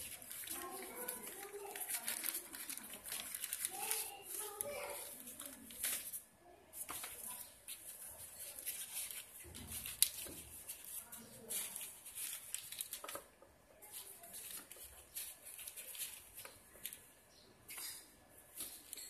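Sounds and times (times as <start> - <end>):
paper crinkling and rustling: 0.0 - 6.2, 6.8 - 17.0.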